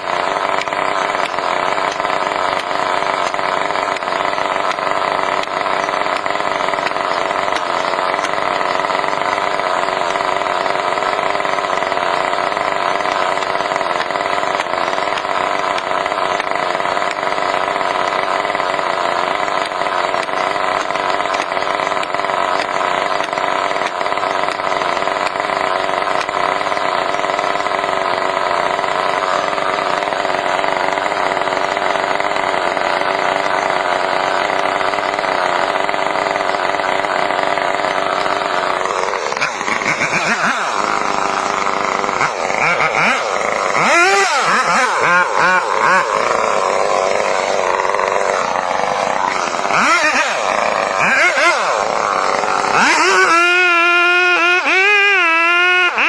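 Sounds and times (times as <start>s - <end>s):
motor engine running: 0.0s - 56.0s.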